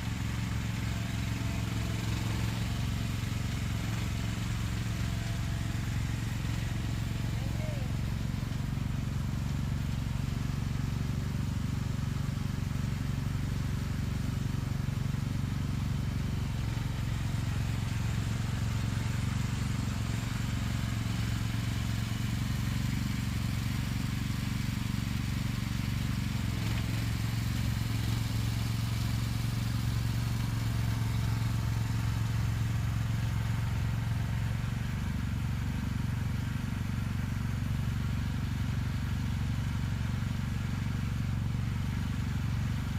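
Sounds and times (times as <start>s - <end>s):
vehicle engine humming: 0.0s - 42.9s.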